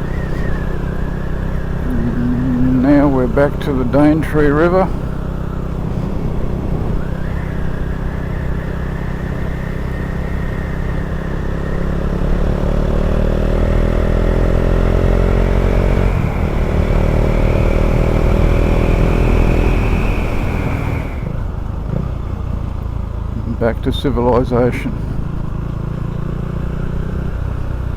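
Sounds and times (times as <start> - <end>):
wind rumble: 0.0 - 22.7
motorcycle engine accelerating: 0.0 - 27.9.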